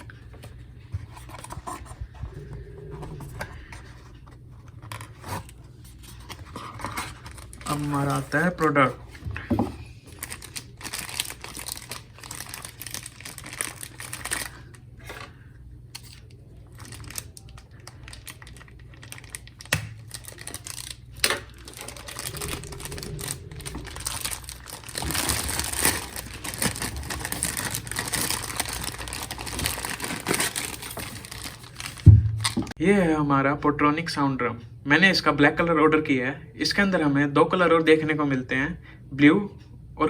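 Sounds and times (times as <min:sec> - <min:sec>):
packaging crinkling and rustling: 0:00.0 - 0:32.8.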